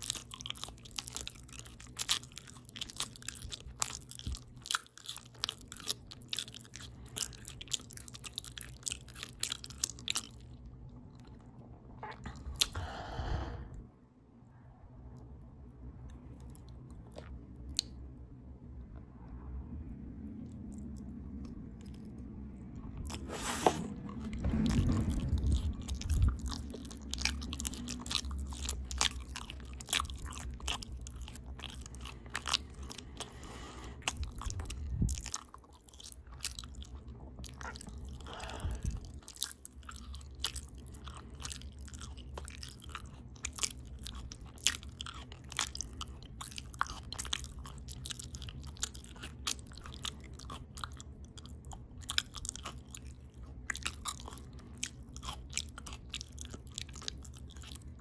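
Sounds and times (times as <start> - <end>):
open-mouth chewing: 0.0 - 13.9, 20.5 - 58.0
low background hum: 0.0 - 58.0.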